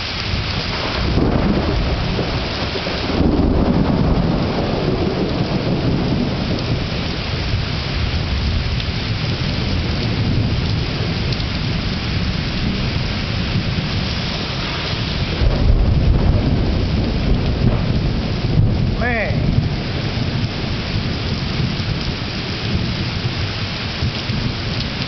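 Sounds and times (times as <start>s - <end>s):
heavy rain falling: 0.0s - 25.0s
thunder rumbling: 0.0s - 25.0s.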